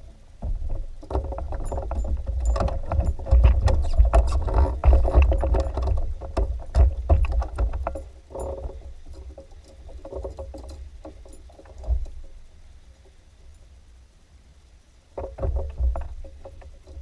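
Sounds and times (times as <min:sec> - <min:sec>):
gear clicking and knocking: 0:00.4 - 0:12.3, 0:15.2 - 0:17.0.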